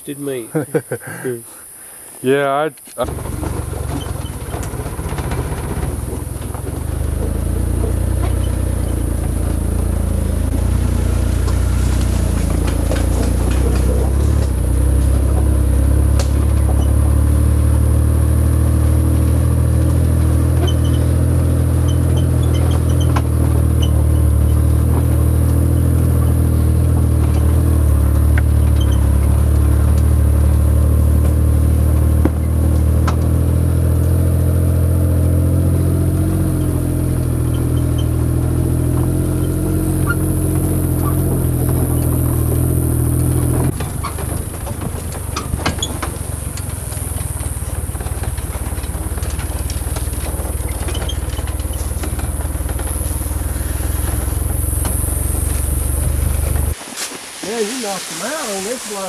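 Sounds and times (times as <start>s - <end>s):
engine idling: 3.0s - 59.0s.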